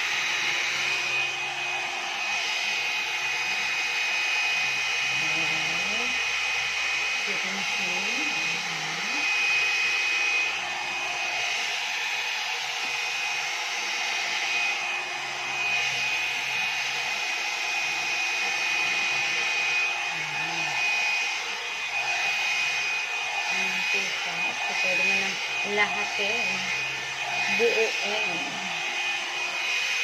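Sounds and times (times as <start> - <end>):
hot-air brush running: 0.0 - 30.0.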